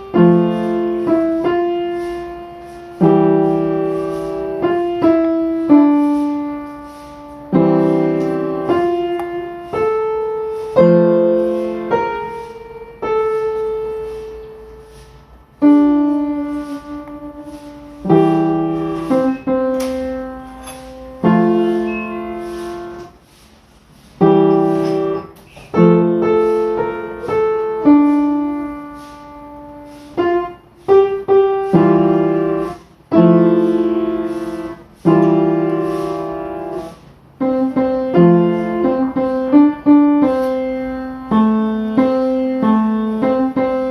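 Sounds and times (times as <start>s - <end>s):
slow solo piano chords: 0.0s - 23.2s, 24.2s - 43.9s.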